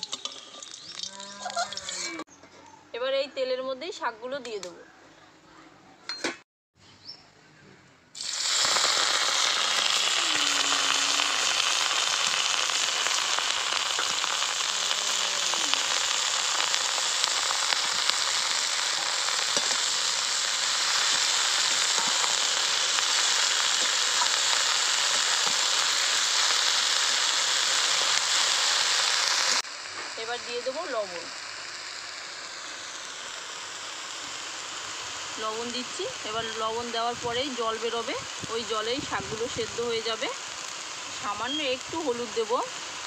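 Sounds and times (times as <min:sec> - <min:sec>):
leaves sizzling in hot oil: 0:00.0 - 0:02.2, 0:08.2 - 0:43.0.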